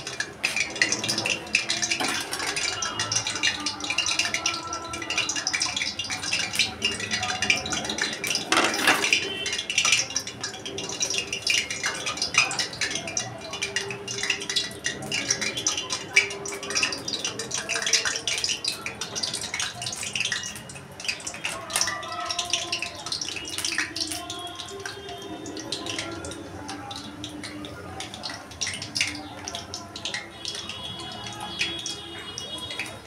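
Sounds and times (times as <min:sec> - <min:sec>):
hot oil crackling and spitting: 0:00.0 - 0:33.0.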